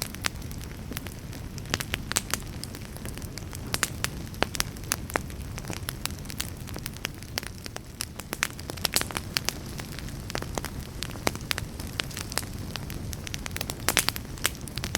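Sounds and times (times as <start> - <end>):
burning logs crackling: 0.0 - 14.9
rumble of flames: 0.0 - 14.9.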